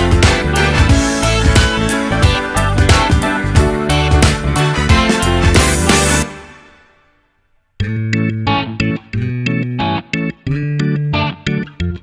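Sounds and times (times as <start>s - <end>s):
plucked guitar notes: 0.0s - 6.5s, 7.8s - 12.0s
bass line: 0.0s - 6.8s, 7.8s - 12.0s.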